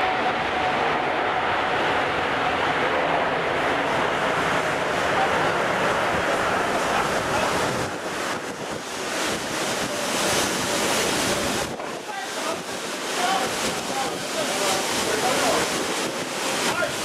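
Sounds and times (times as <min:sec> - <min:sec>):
heavy rain: 0:00.0 - 0:17.0
wind buffeting microphone: 0:00.0 - 0:17.0.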